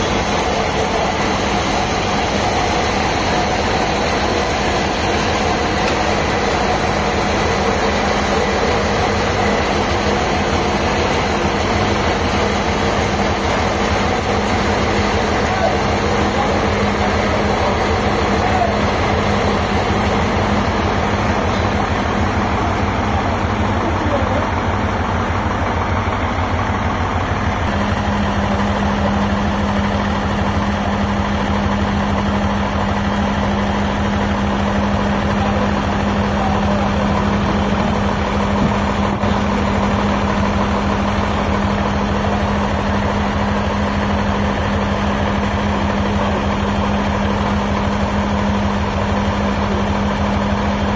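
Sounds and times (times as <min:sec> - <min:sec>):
engine running hum: 0:00.0 - 0:50.9.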